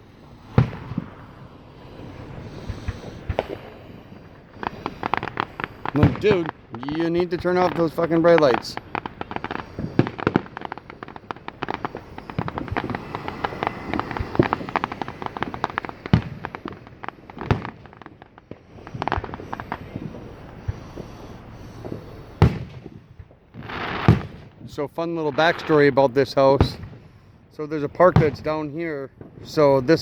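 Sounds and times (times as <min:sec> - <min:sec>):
fireworks popping and crackling: 0:00.0 - 0:30.0
loud firework bangs: 0:00.0 - 0:30.0.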